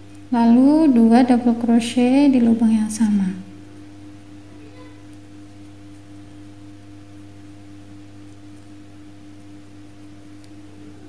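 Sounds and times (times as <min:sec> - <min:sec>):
steady tonal hum: 0:00.0 - 0:11.0.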